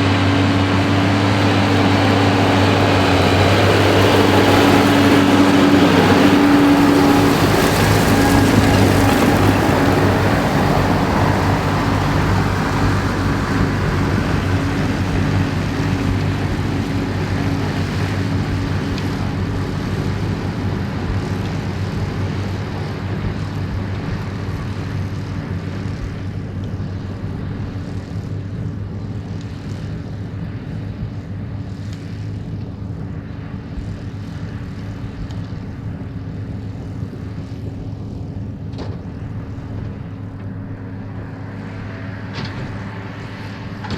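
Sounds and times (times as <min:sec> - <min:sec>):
tractor engine drone: 0:00.0 - 0:43.9.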